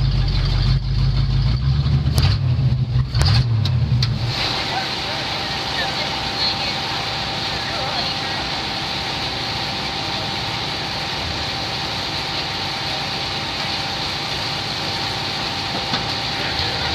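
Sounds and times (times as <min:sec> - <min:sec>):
race car engine idling: 0:00.0 - 0:16.9
constant thin whine: 0:03.0 - 0:16.9.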